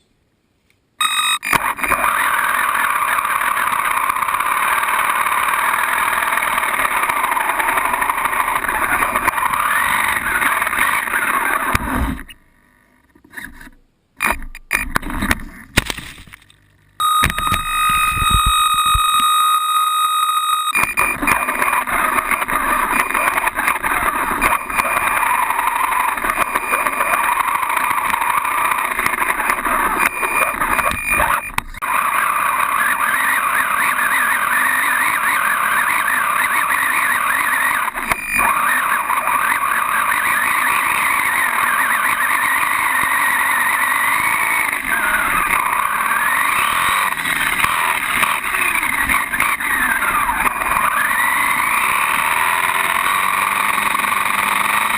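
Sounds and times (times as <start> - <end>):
electric toy car motor whining: 1.0 - 12.3, 20.7 - 54.9.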